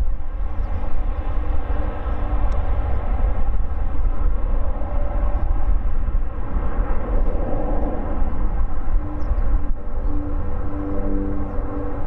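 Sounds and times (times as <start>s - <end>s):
jet engines roaring at takeoff: 0.0s - 12.0s.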